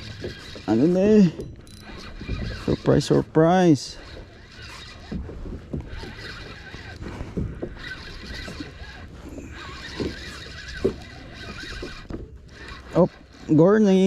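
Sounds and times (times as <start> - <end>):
water noise: 0.0 - 14.0.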